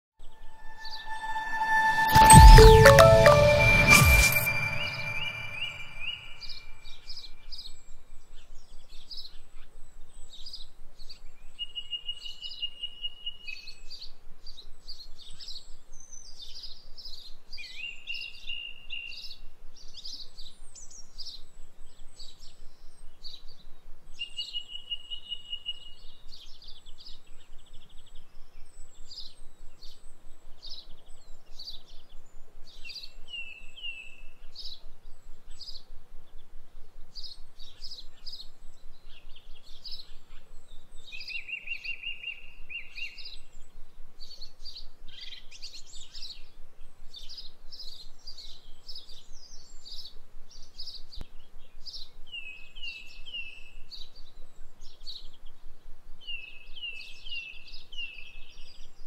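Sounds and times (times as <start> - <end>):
songbirds chirping: 10.3 - 59.0.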